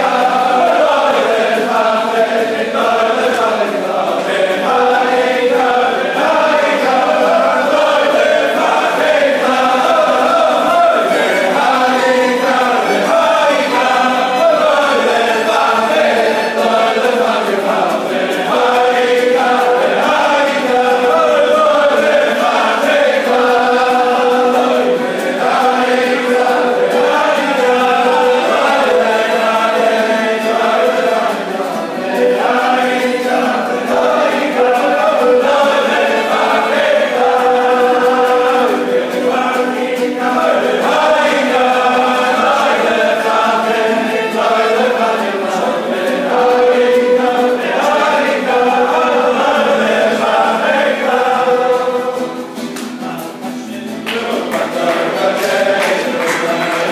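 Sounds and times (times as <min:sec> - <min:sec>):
men singing in unison: 0:00.0 - 0:56.9.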